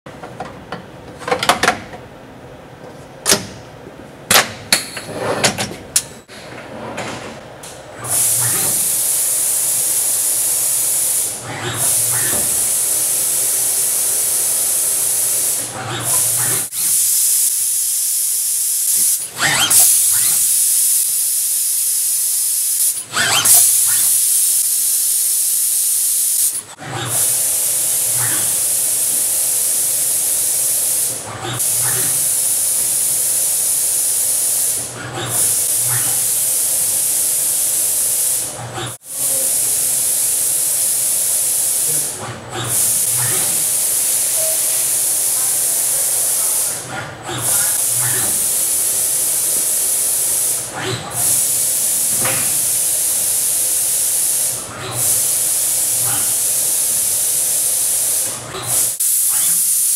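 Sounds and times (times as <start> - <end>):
machine hiss: 8.0 - 59.9.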